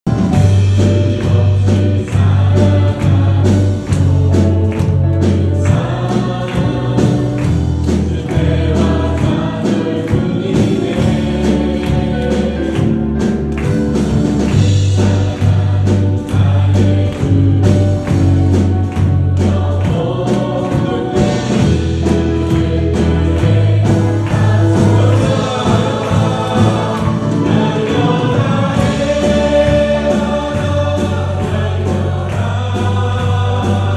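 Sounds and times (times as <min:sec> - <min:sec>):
drums: 0:00.0 - 0:33.9
bass line: 0:00.1 - 0:33.9
group singing worship song: 0:00.2 - 0:33.9.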